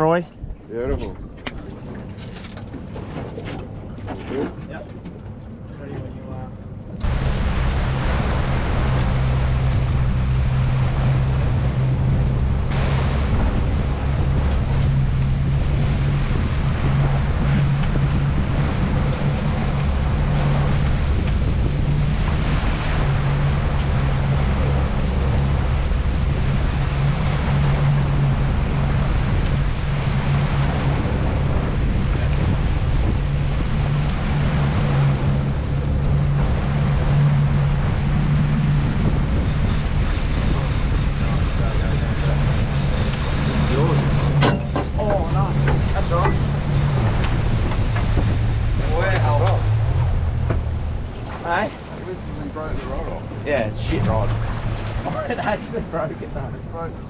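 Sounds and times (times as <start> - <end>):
outboard motor running: 0.0 - 57.0
water rushing: 0.0 - 57.0
wind buffeting microphone: 0.0 - 57.0.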